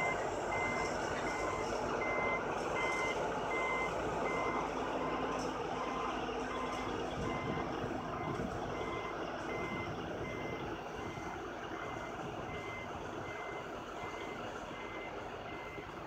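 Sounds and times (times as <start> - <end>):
backup alarm beeping: 0.0 - 5.2, 5.8 - 15.9
truck and train rumble: 0.0 - 16.0.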